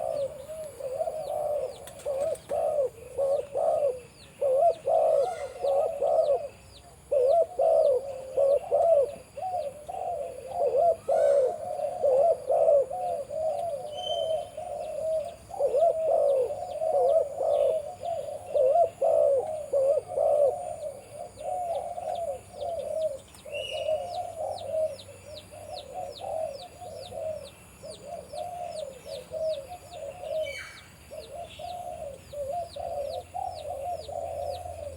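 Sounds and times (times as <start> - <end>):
dove cooing: 0.0 - 34.9
small birds chirping: 0.0 - 34.9.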